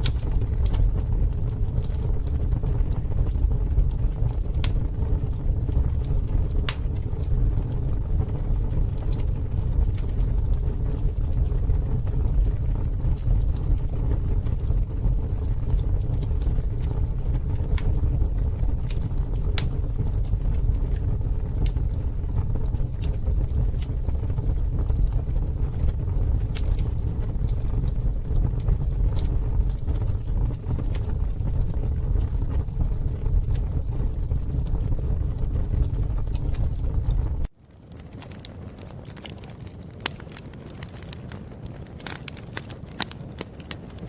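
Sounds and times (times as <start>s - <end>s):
campfire crackling and popping: 0.0s - 44.0s
low fire rumble: 0.0s - 44.0s.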